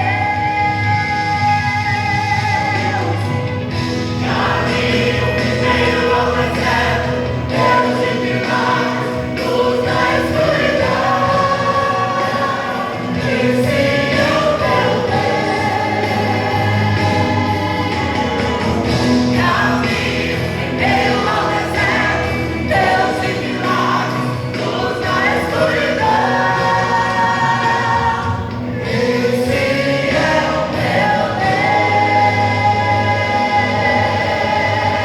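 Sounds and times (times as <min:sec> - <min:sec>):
choir singing gospel: 0:00.0 - 0:35.0.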